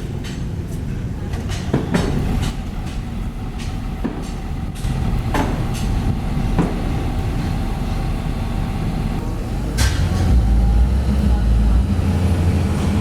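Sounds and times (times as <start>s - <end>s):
diesel engine running: 2.3s - 13.0s.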